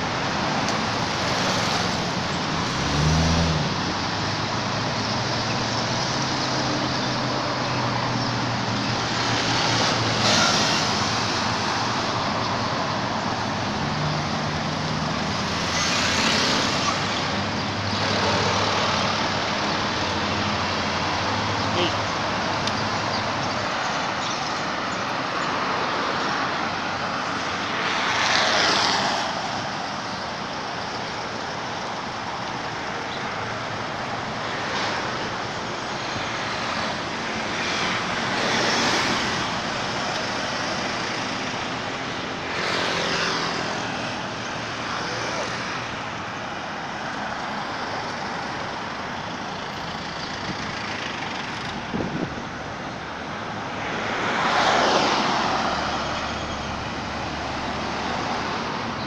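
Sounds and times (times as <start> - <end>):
steady traffic noise: 0.0 - 59.0
vehicles passing by: 0.0 - 59.0.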